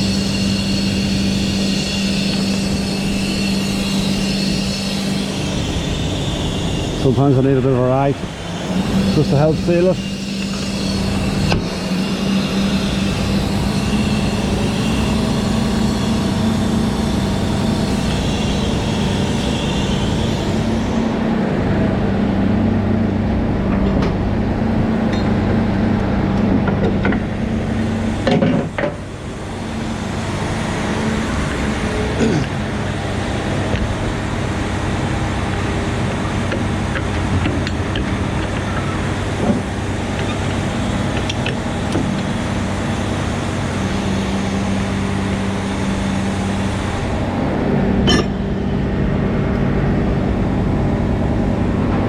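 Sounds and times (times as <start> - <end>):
road noise: 0.0 - 52.0.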